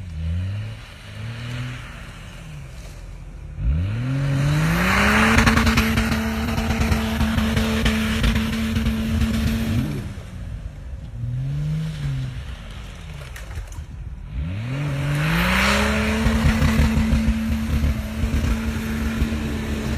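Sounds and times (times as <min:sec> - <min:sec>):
off-road vehicle engine revving: 0:00.0 - 0:19.9.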